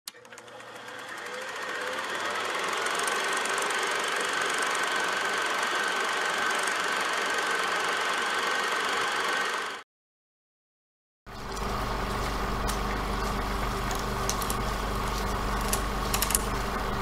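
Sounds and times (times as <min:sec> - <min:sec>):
film projector whirring: 0:00.1 - 0:09.8, 0:11.3 - 0:17.0.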